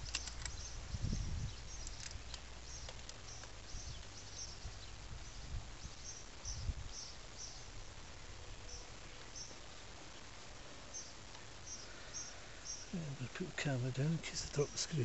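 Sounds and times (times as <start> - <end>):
small bird chirping: 0.0 - 7.8, 8.6 - 13.0.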